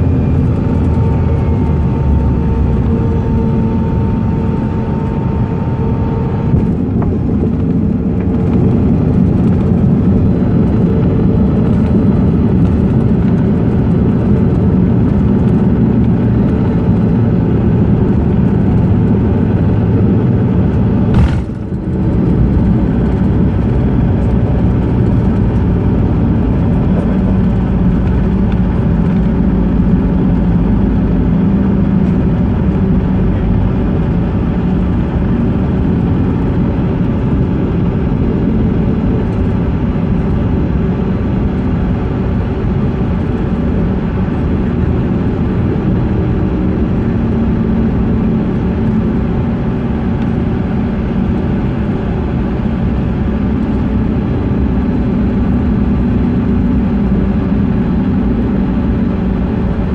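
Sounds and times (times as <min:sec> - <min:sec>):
jet airliner cabin noise: 0:00.0 - 0:59.9.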